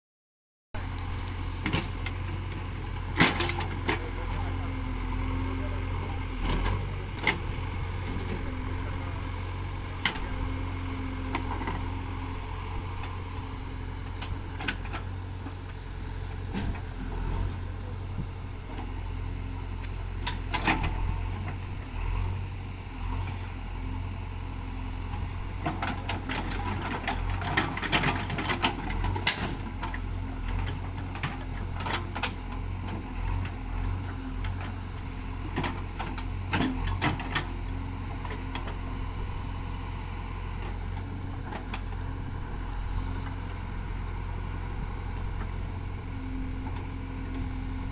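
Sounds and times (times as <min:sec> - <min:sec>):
diesel engine running: 0:00.8 - 0:47.9.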